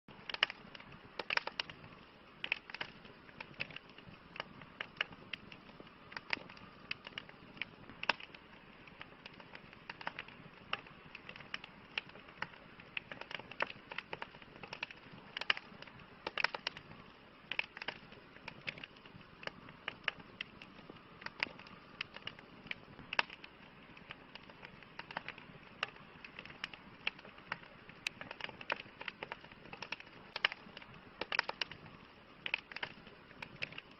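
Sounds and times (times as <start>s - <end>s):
bonfire crackling: 0.1s - 33.9s
soft steady hiss: 0.1s - 33.9s.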